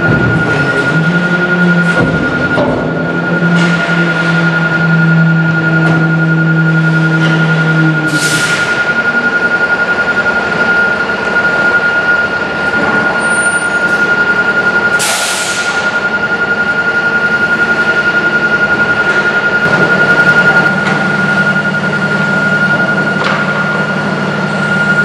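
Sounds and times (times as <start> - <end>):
garbage truck engine running: 0.0 - 25.0
steady high whine: 0.0 - 25.0.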